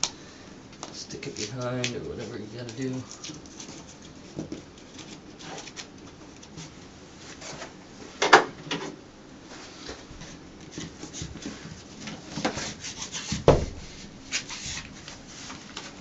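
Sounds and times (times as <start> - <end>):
rubbing and scraping on wall: 1.2 - 7.8, 8.8 - 16.0.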